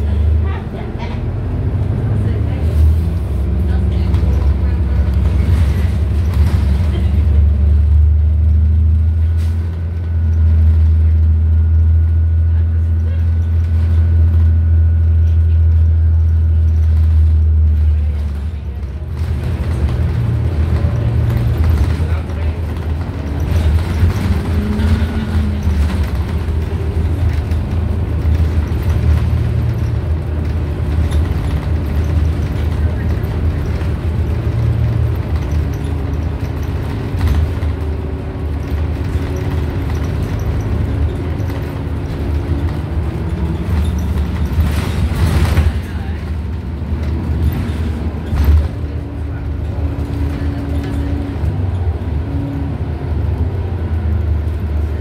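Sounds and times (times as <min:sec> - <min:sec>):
bus engine droning: 0:00.0 - 0:55.0
road noise: 0:00.0 - 0:55.0.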